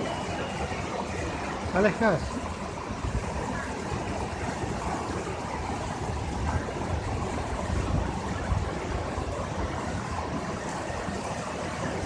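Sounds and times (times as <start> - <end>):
waterfall rushing water: 0.0 - 12.0.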